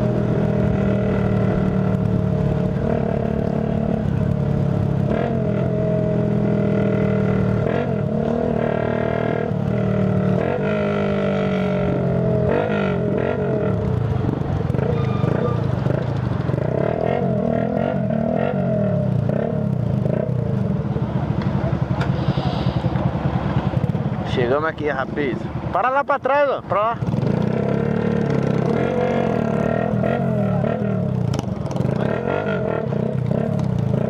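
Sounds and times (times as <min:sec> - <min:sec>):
motorcycle engine revving: 0:00.0 - 0:25.8, 0:26.6 - 0:34.0.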